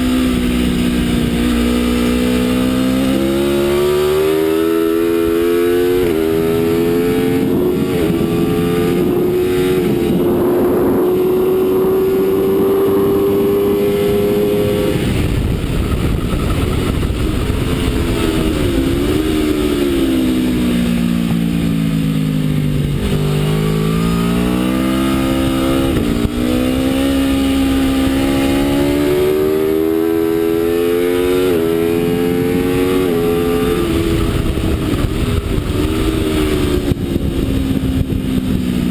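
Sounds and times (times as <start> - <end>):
motorcycle engine revving: 0.0 - 38.9
low rushing noise: 4.7 - 38.9.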